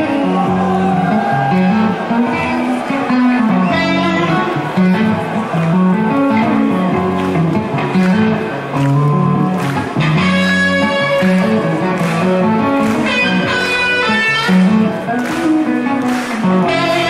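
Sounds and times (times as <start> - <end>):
electric guitars playing metal: 0.0 - 17.0.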